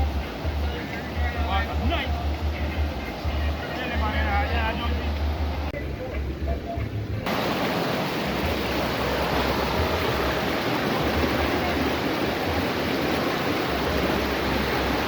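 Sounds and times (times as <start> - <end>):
river water rushing: 0.0 - 5.7, 7.3 - 15.0.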